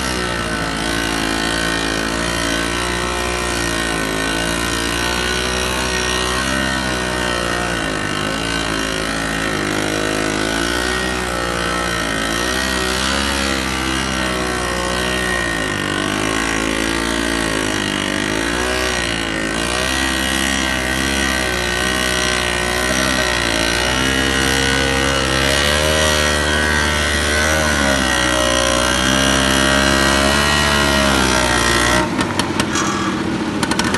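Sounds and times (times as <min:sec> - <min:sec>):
two-stroke engine running hard: 0:00.0 - 0:33.9.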